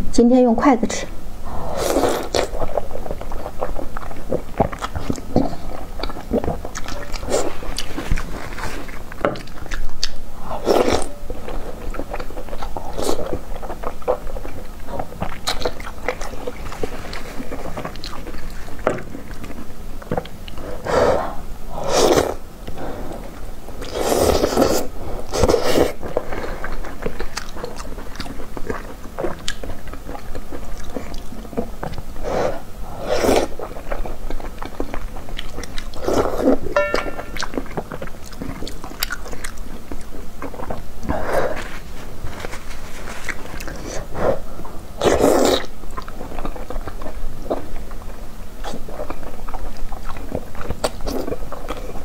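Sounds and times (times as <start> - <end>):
biting and chewing soft food: 1.4 - 52.0.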